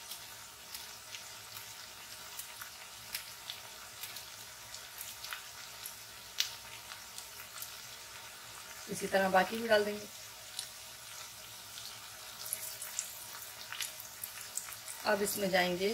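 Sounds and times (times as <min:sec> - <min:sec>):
oil crackling and popping: 0:00.0 - 0:15.9
vegetables sizzling in oil: 0:00.0 - 0:15.9.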